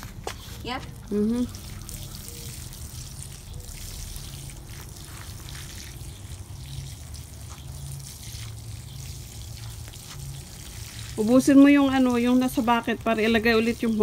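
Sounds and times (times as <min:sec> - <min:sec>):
water trickling onto soil: 0:00.0 - 0:14.0.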